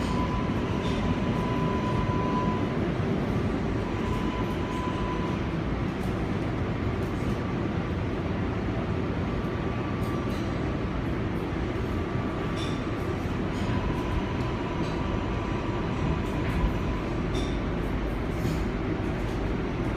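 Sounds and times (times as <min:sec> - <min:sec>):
subway car rumbling on rails: 0:00.0 - 0:19.9.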